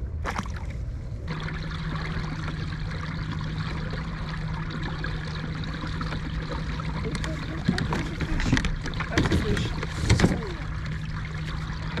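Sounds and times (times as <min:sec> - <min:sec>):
water rushing along hull: 0:00.2 - 0:12.0.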